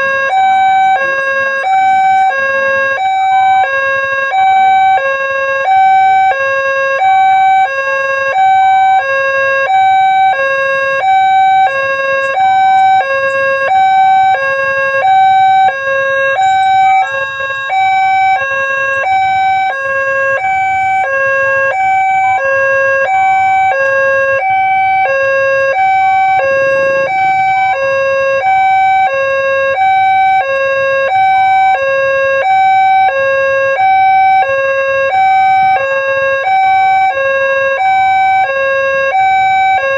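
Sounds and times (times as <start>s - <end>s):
level crossing two-tone siren: 0.0s - 39.9s.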